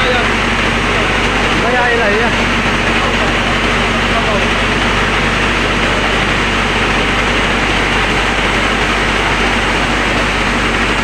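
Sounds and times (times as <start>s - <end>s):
rice mill running: 0.0s - 11.0s.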